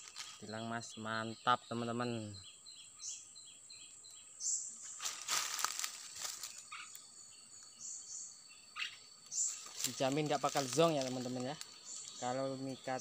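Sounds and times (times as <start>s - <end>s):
birds chirping and whistling: 0.0s - 13.0s
high insect drone: 0.0s - 13.0s.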